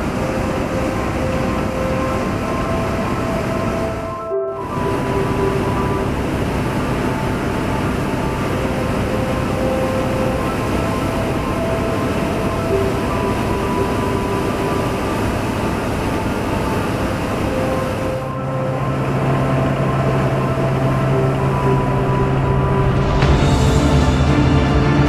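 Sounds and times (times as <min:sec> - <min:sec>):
faint machine whining: 0:00.0 - 0:23.8
engines and machinery droning: 0:00.0 - 0:25.0.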